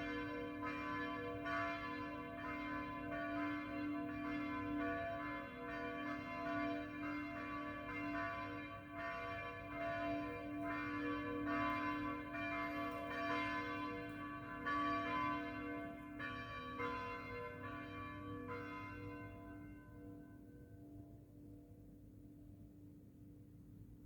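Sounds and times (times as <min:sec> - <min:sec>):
church bells pealing: 0:00.0 - 0:20.0.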